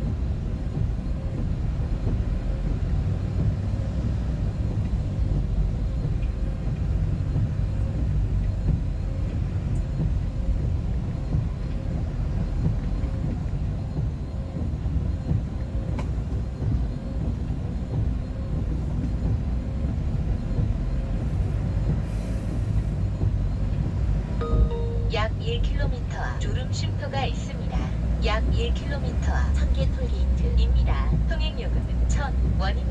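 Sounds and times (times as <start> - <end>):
engine and road noise rumble: 0.0 - 32.9.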